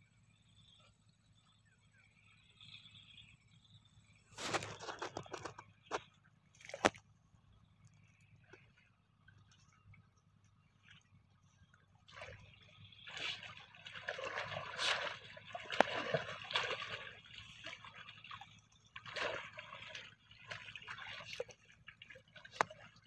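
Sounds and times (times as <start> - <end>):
muddy water splashing and sloshing: 4.0 - 23.0.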